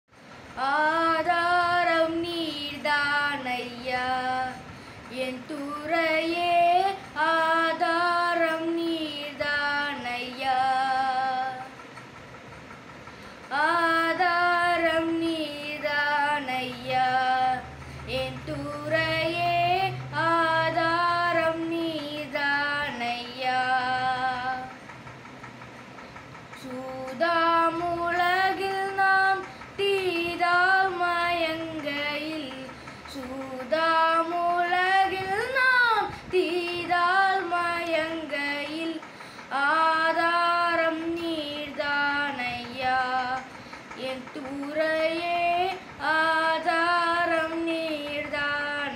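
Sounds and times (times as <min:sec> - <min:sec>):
boy singing: 0:00.5 - 0:11.8, 0:13.5 - 0:24.8, 0:26.6 - 0:48.9.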